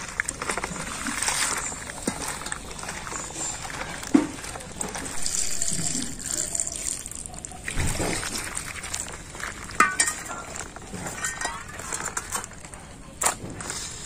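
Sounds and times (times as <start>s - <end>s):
water sloshing in steel bowl: 0.0s - 14.0s.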